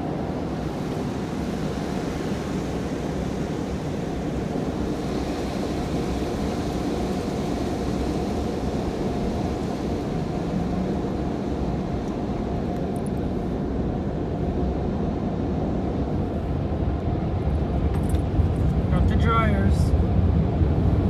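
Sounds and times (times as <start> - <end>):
car wash water spray and machinery: 0.0 - 21.0.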